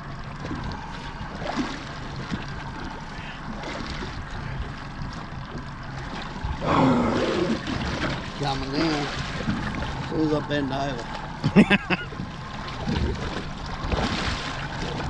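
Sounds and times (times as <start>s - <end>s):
boat engine hum: 0.0s - 15.0s
water noise: 0.0s - 15.0s.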